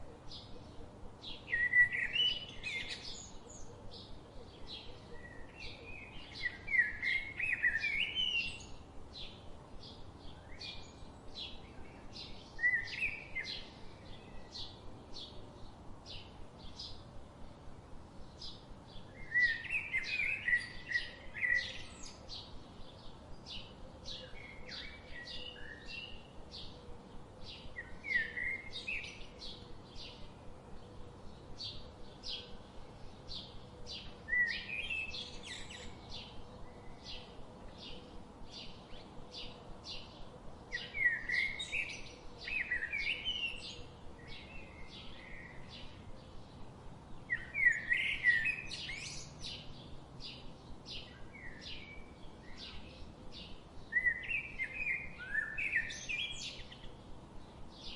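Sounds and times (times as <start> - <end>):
birds warbling song: 0.0 - 57.9.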